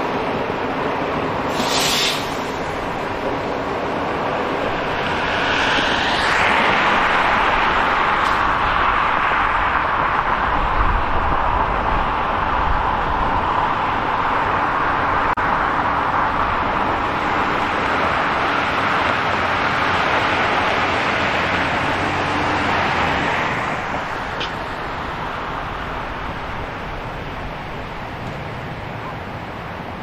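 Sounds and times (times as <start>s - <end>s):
passing cars: 0.0s - 30.0s.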